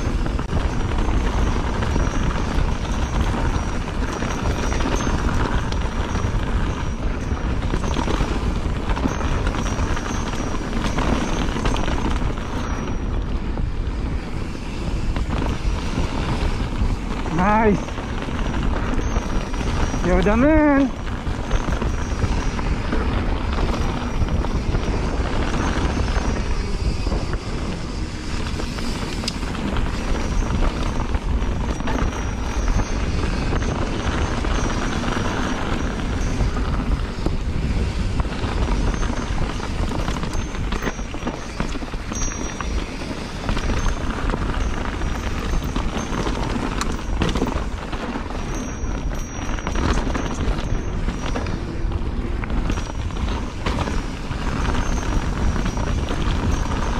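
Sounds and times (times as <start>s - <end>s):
bike knocks and rattles: 0.0s - 56.9s
bike tyre noise: 0.0s - 56.9s
wind buffeting microphone: 0.0s - 56.9s.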